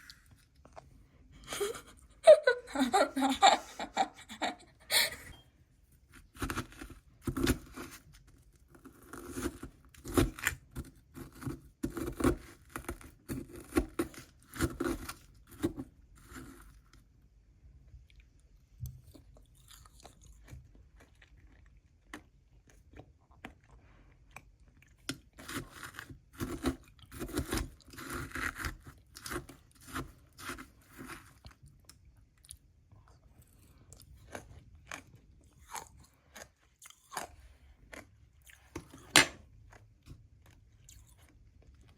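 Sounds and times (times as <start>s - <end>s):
crunchy chewing of ice: 6.0s - 17.2s, 18.1s - 41.9s.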